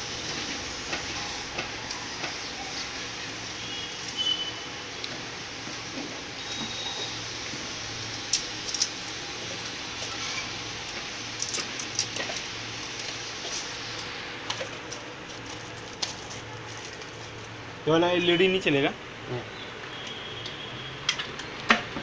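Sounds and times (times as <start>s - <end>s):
steady hiss: 0.0s - 21.1s.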